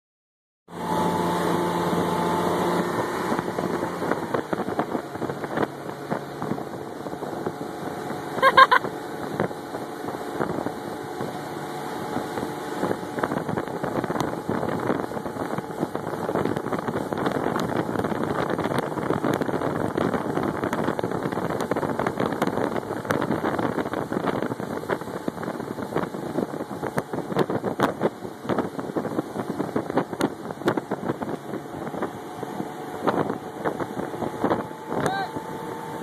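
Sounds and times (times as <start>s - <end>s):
boat engine running: 0.7s - 36.0s
water rushing: 0.7s - 36.0s
wind buffeting microphone: 0.8s - 36.0s.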